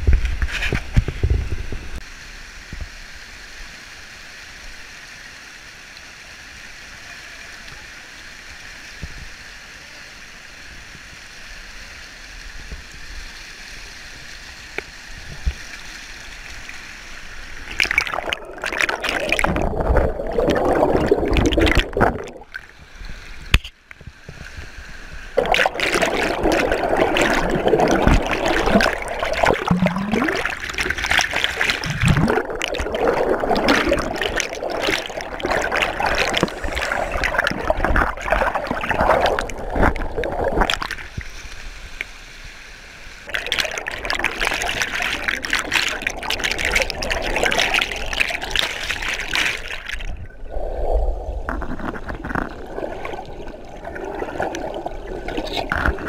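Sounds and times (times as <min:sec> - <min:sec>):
stream water rushing underwater: 0:00.0 - 0:56.0.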